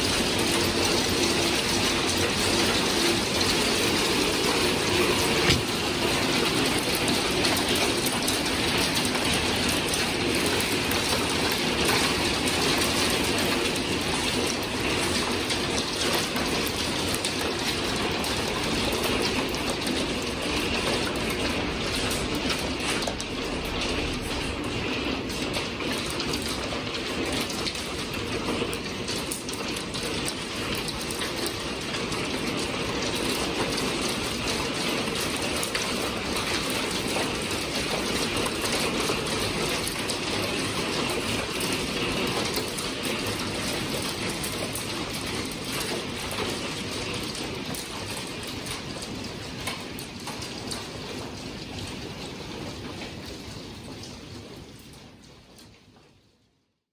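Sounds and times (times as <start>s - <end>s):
hail and rain pelting: 0.0s - 56.4s.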